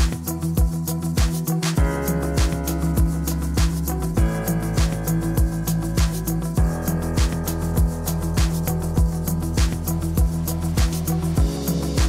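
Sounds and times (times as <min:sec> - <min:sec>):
upbeat music with drum beat: 0:00.0 - 0:12.0.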